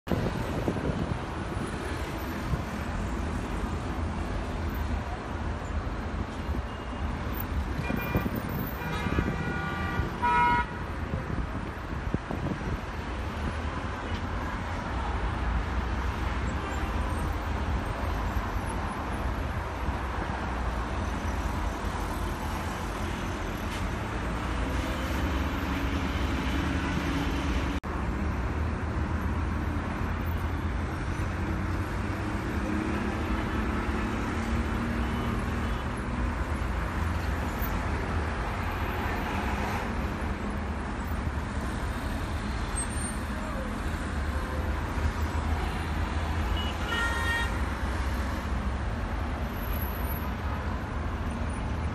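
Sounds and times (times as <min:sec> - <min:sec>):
cars passing: 0:00.1 - 0:51.9.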